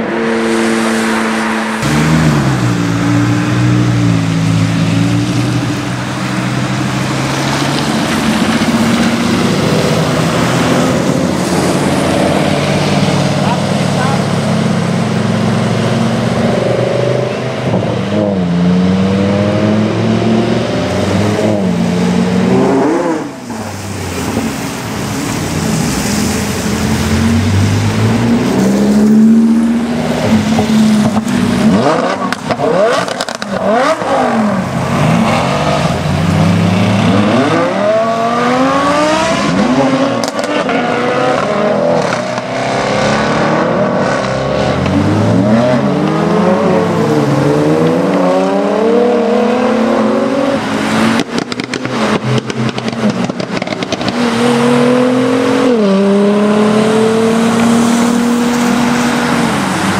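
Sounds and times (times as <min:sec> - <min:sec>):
sports car engines accelerating: 0:00.0 - 0:59.9.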